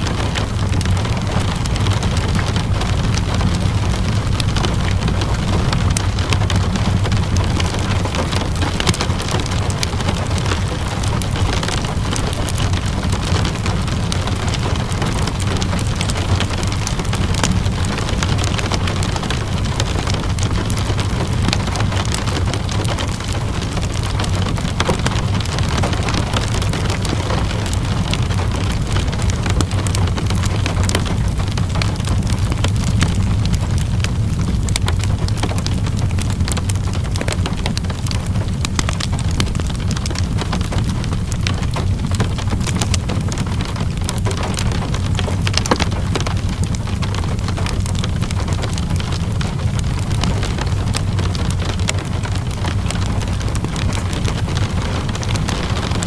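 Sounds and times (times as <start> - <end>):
low rumble: 0.0 - 56.0
steady rainfall: 0.0 - 56.0
wood fire crackling: 0.0 - 56.0.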